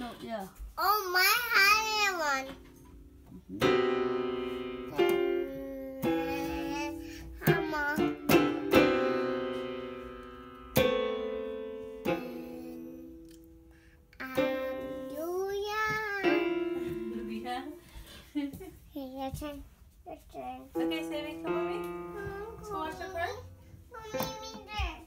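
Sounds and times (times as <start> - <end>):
digital piano notes: 1.5 - 17.9, 20.7 - 24.8.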